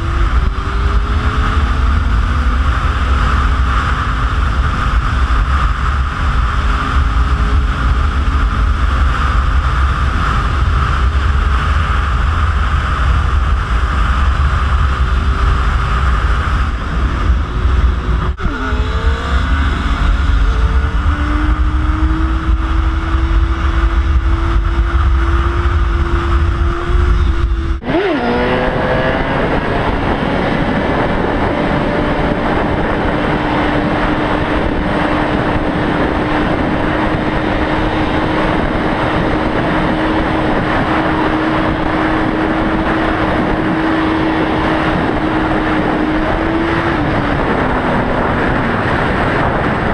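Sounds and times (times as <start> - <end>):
motorcycle engine running: 0.0 - 49.9
wind buffeting on helmet: 0.0 - 49.9.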